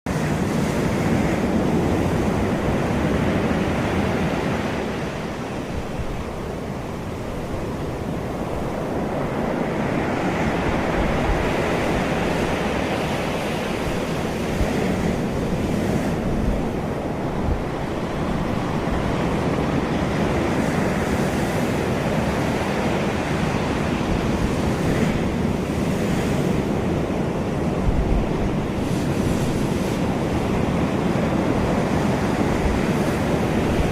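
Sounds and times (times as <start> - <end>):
ocean waves breaking on beach: 0.1 - 33.9
wind rumbling on microphone: 0.1 - 33.9.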